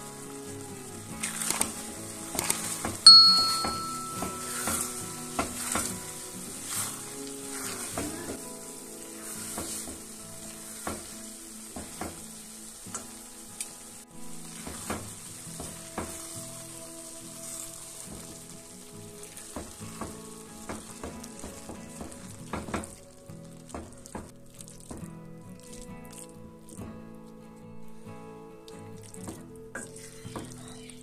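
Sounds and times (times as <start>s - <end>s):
pasta sauce sizzling in a pan: 0.0s - 27.5s.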